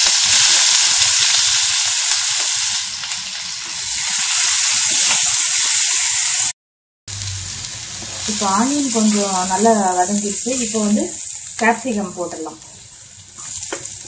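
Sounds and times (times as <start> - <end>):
onion sizzling in hot oil: 0.0 - 6.5, 7.1 - 14.0.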